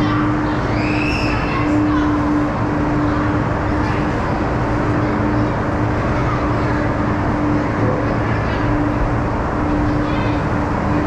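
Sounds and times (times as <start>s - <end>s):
ice resurfacer engine drone: 0.0s - 11.0s.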